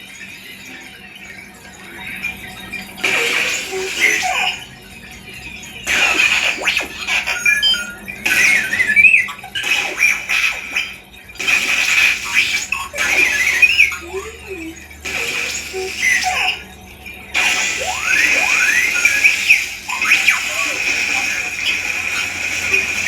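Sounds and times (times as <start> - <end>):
electronic chirps and whistles: 0.0 - 23.0.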